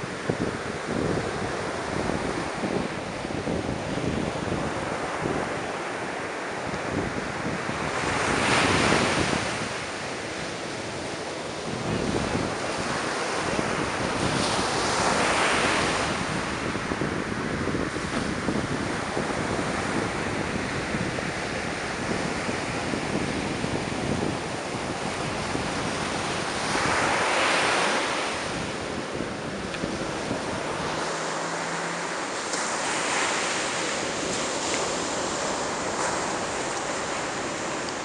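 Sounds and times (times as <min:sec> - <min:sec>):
ocean surf breaking on beach: 0:00.0 - 0:38.0
wind buffeting microphone: 0:00.0 - 0:38.0.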